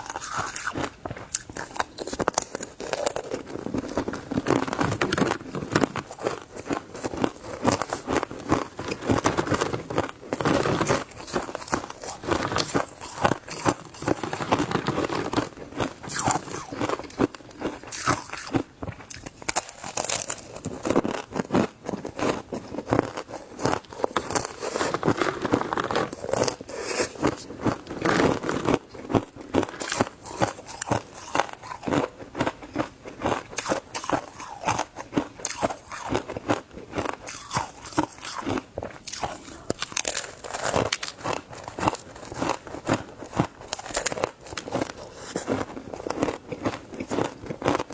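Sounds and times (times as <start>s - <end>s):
person crunching ice: 0.0s - 47.9s.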